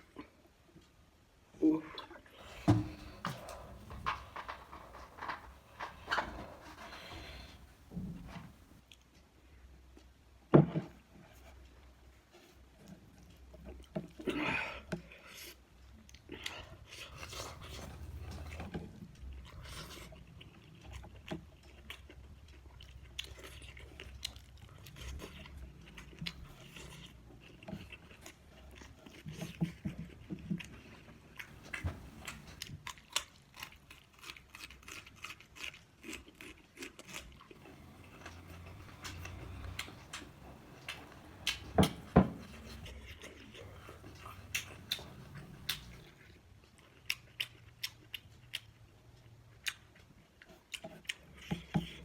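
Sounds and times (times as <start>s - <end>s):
chewing and crunching food: 2.0s - 52.0s.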